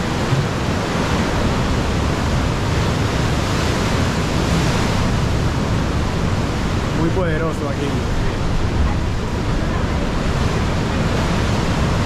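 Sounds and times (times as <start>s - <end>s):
ocean surf rushing into cave: 0.0s - 12.0s.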